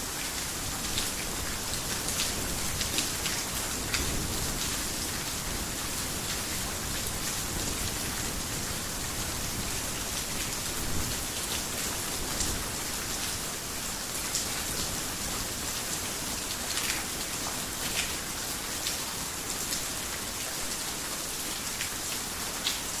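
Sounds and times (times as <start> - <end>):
heavy rain on a roof: 0.0 - 23.0.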